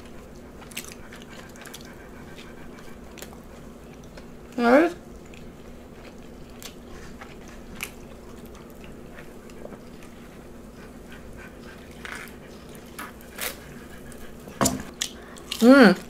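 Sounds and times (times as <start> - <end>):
person chewing: 0.0 - 4.5, 5.1 - 16.0
faint steady hum: 0.0 - 16.0.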